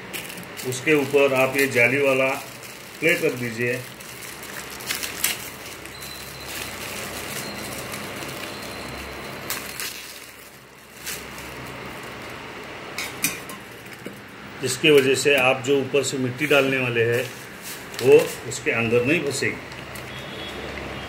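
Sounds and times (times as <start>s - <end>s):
plastic packaging crinkling: 0.0s - 12.8s, 14.7s - 21.0s.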